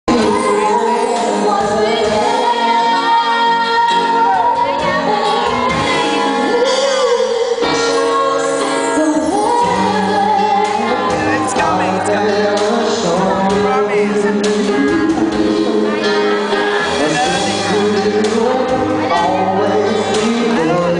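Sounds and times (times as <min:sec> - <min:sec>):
live band playing: 0:00.1 - 0:20.9
woman singing lead: 0:00.1 - 0:20.9.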